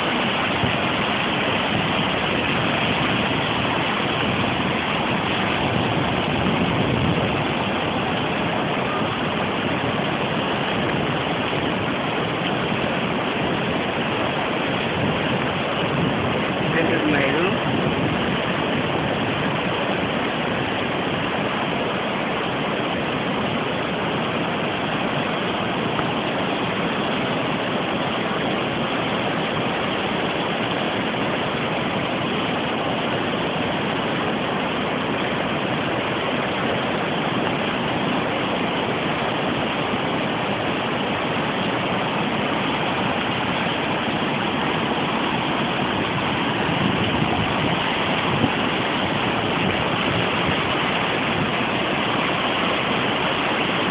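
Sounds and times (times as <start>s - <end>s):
flooded river rushing: 0.0s - 53.9s.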